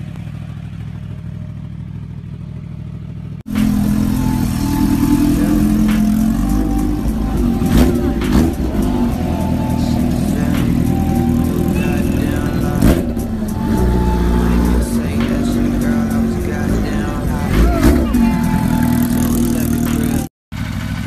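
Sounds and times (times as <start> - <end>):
loud motorbike engine at low revs: 0.0 - 21.0
motorbike engine idling: 0.0 - 21.0
engine revving blips: 3.5 - 21.0.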